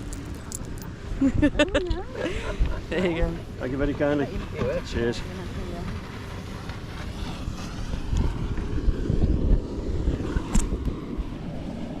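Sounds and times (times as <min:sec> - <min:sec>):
vehicle engine rumbling: 0:00.0 - 0:11.8.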